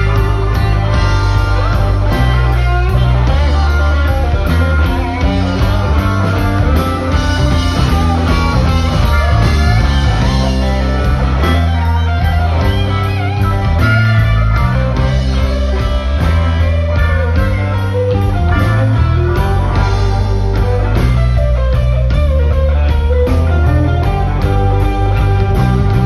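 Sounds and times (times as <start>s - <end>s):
blues band playing: 0.0s - 26.0s.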